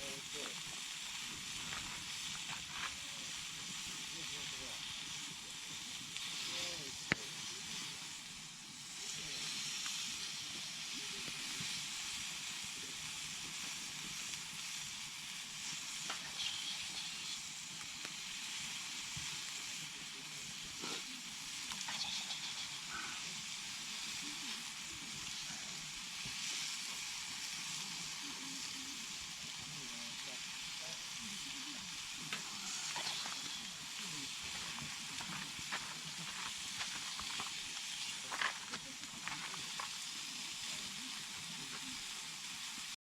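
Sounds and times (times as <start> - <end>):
food sizzling: 0.0 - 43.0.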